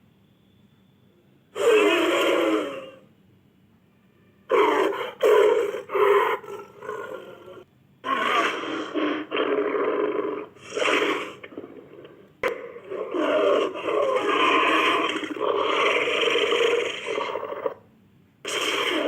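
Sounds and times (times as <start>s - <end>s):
dinosaur roars: 1.6s - 3.0s, 4.5s - 17.8s, 18.4s - 19.0s.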